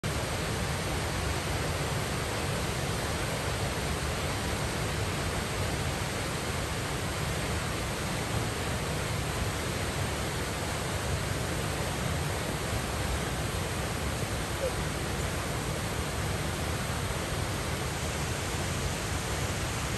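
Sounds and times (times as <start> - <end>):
waterfall rushing into pool: 0.0 - 19.9.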